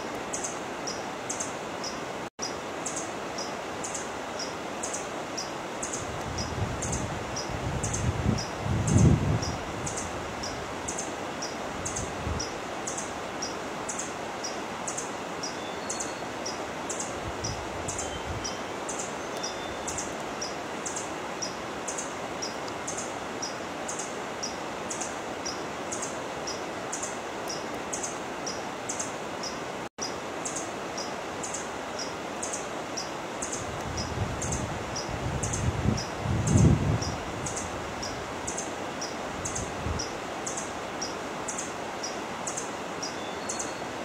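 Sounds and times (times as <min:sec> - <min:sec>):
steady forest hiss: 0:00.0 - 0:44.0.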